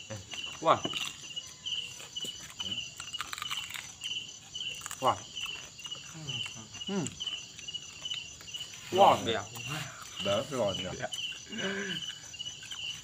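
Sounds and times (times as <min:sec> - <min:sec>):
crickets chirping: 0:00.0 - 0:13.0
people chewing crispy food: 0:00.0 - 0:13.0.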